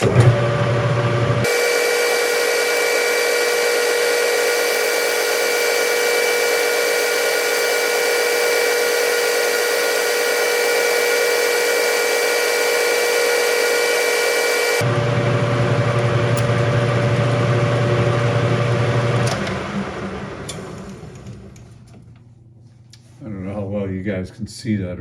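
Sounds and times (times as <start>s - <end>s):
metal lathe whining: 0.0s - 21.6s.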